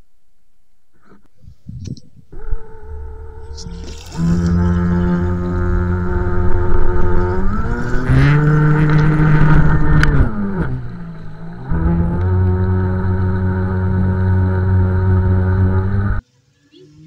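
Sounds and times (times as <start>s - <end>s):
electric motor whining: 2.3s - 16.2s.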